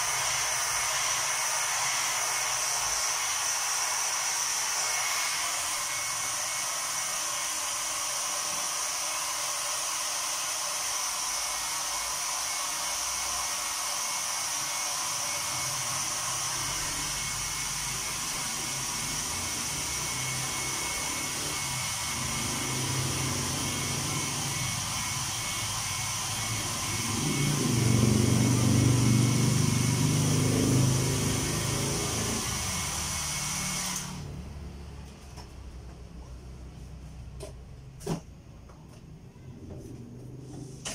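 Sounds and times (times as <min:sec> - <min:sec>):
heat gun blowing: 0:00.0 - 0:34.3.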